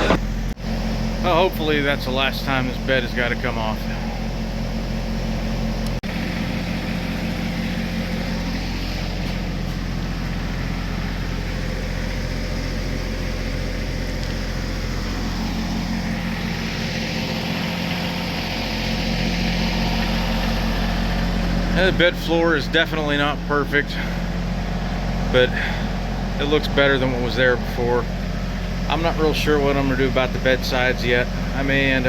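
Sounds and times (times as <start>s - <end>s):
low mechanical engine drone: 0.0s - 32.0s.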